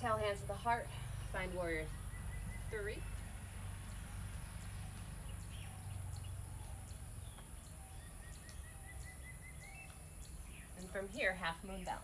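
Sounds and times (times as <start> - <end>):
bird chirping: 1.9 - 12.0.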